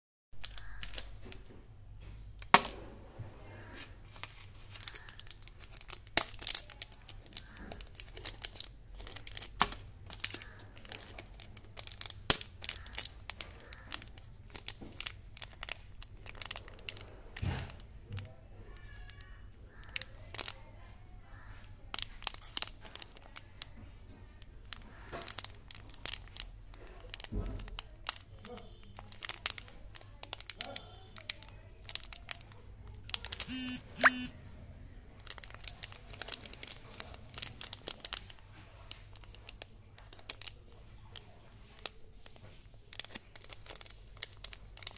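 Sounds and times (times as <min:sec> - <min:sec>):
plastic wrapper crinkling: 0:00.4 - 0:01.4, 0:04.0 - 0:34.3, 0:35.2 - 0:44.9.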